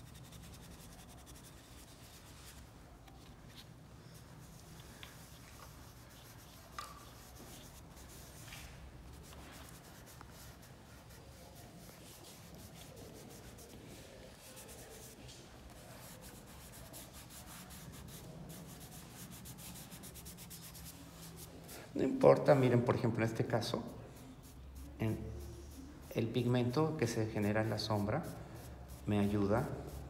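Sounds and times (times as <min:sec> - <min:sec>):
pastel rubbing on paper: 0:00.0 - 0:02.7, 0:03.5 - 0:21.9, 0:23.4 - 0:30.0.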